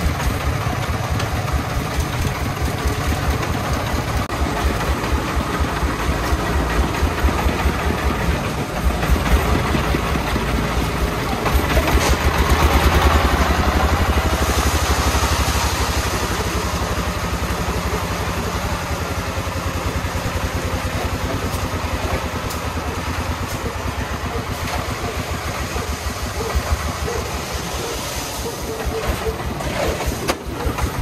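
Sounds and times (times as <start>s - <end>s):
diesel engine chugging: 0.0s - 31.0s.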